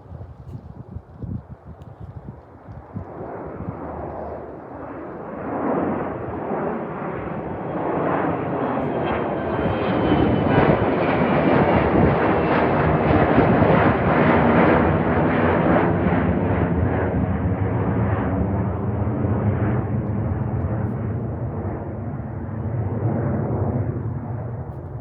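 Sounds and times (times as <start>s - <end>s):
jet aircraft engine: 0.0s - 25.0s.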